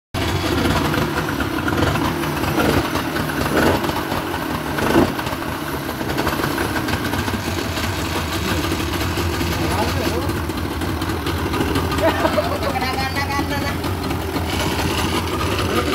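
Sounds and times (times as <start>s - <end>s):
small engine idling: 0.2s - 15.9s.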